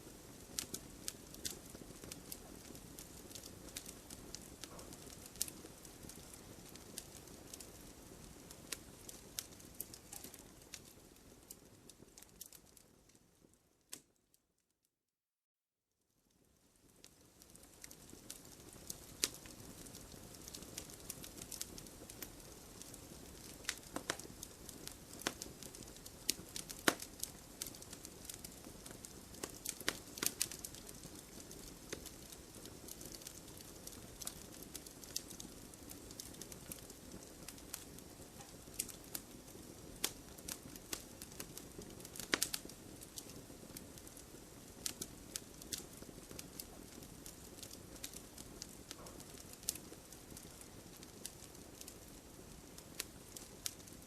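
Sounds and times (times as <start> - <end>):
wood fire crackling and popping: 0.0 - 14.2, 16.3 - 54.0
soft steady hiss: 0.0 - 14.9, 16.0 - 54.0.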